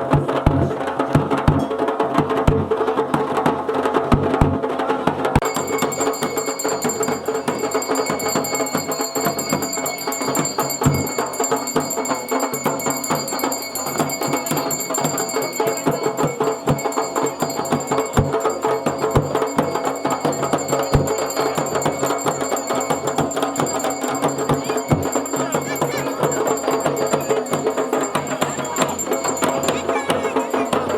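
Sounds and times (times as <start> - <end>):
drums playing a rhythm: 0.0 - 30.9.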